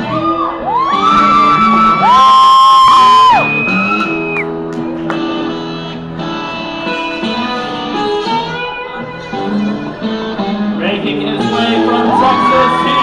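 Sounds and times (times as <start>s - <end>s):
guitar music: 0.0s - 13.0s
sustained guitar chords: 1.0s - 13.0s.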